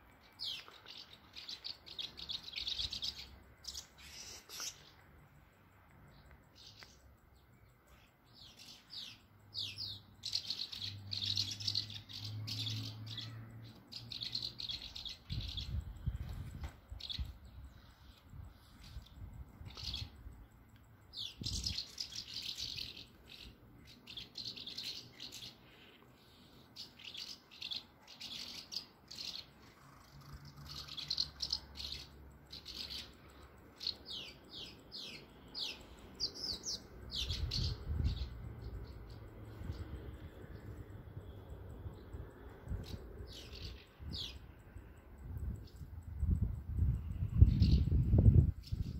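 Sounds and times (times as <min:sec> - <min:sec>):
swallows twittering: 0:00.0 - 0:48.9.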